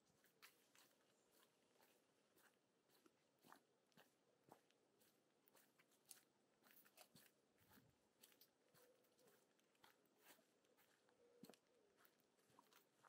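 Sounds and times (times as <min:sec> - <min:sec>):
faint footsteps walking: 0:00.0 - 0:13.0.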